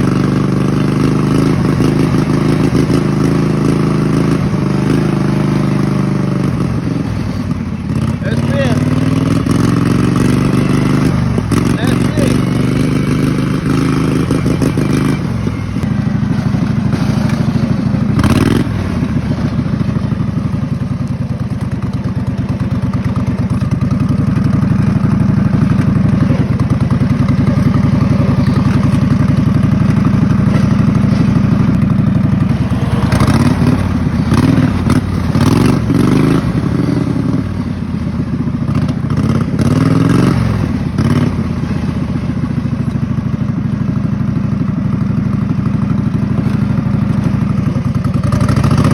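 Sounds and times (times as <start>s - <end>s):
mower engine running: 0.0s - 48.9s.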